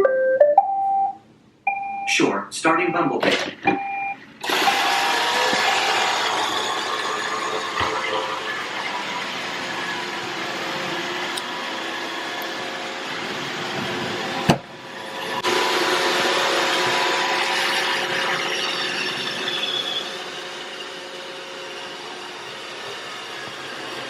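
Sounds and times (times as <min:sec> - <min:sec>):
robot vacuum whirring: 0:04.4 - 0:24.0.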